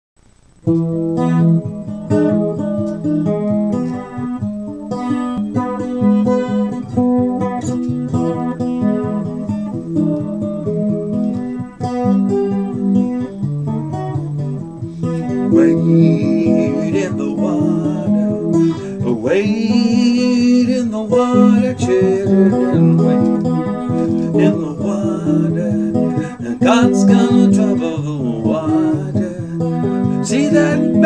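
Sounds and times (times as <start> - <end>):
guitar picked melody: 0.2 - 31.0.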